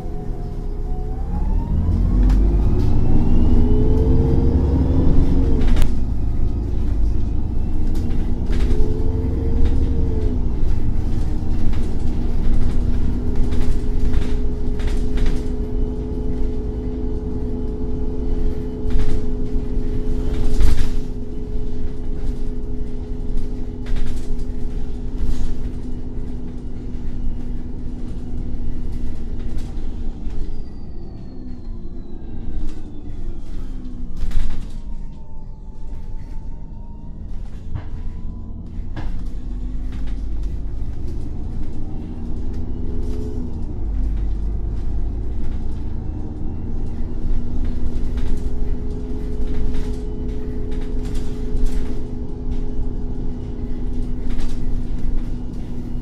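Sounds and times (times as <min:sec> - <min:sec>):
bus engine pulling away: 0:00.0 - 0:56.0.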